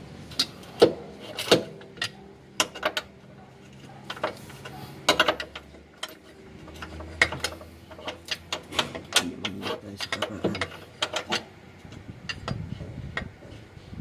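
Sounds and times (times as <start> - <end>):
metal clicks of hand tools: 0.3 - 12.6.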